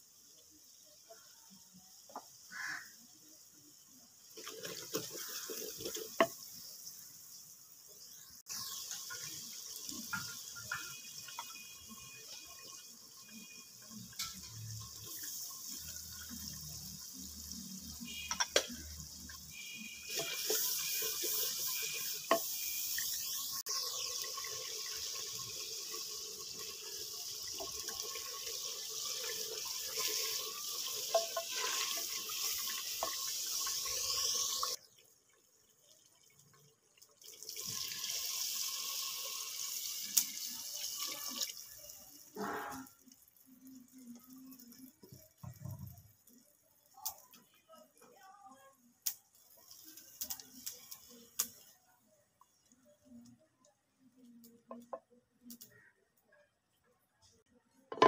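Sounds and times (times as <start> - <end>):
oil sizzling in a pot: 0.0 - 55.9.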